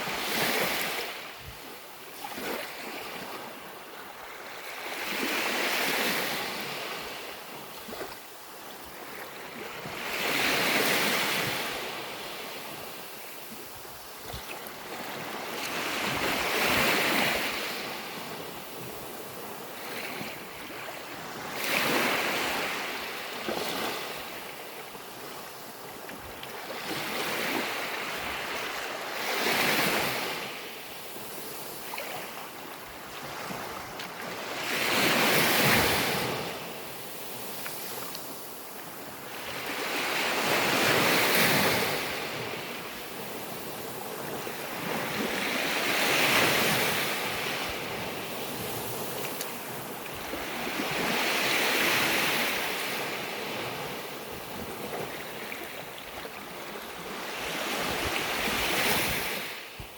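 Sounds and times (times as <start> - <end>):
sea waves breaking on a beach: 0.0 - 59.9.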